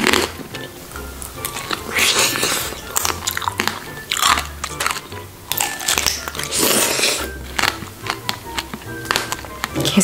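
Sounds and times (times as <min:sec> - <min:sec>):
candy shell crunching: 0:00.0 - 0:10.0.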